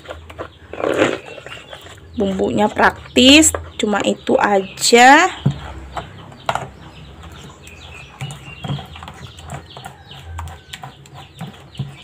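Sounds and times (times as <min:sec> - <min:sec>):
birds calling: 0:00.0 - 0:12.0
spoon stirring batter in bowl: 0:00.0 - 0:12.0.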